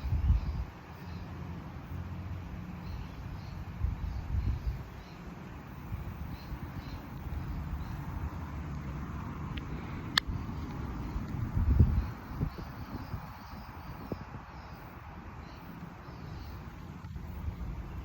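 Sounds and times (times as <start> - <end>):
wind rumbling on microphone: 0.0 - 0.8, 2.8 - 18.0.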